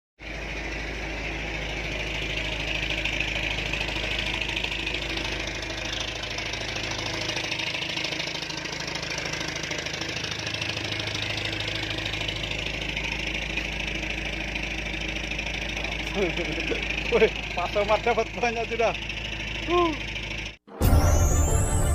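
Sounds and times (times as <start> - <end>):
boat engine humming: 0.2 - 21.9.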